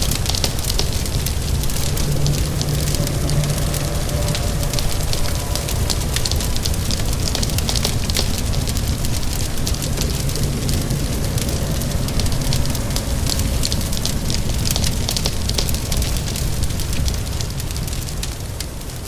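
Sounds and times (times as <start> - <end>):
rain: 0.0 - 19.0
wood fire crackling and popping: 0.0 - 19.0.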